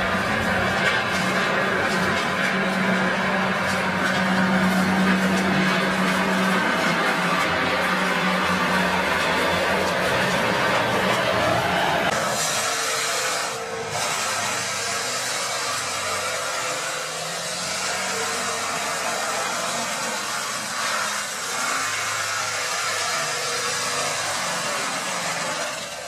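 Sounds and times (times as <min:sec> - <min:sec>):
mulcher grinding tree stump: 0:00.0 - 0:26.0
tractor engine running: 0:00.0 - 0:26.0.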